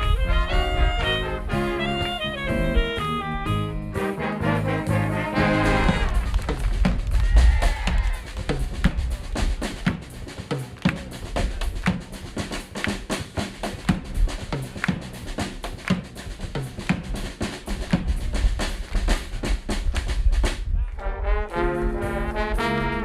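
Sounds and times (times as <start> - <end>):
drum kit playing: 0.0 - 23.0.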